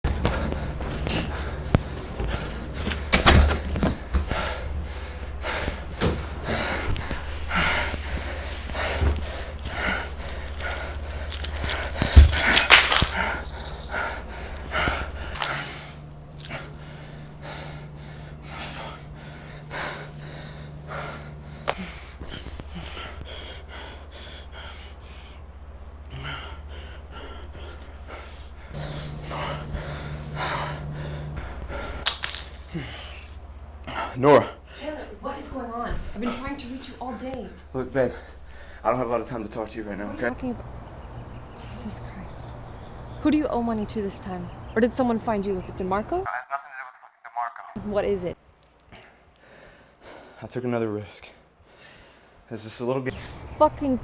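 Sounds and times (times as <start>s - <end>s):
low steady hum: 0.0s - 38.8s, 40.1s - 46.3s.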